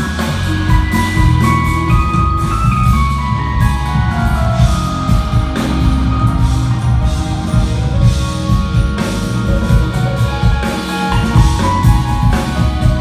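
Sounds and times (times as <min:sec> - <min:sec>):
high melodic line: 0:00.0 - 0:13.0
jazz fusion band playing live: 0:00.0 - 0:13.0.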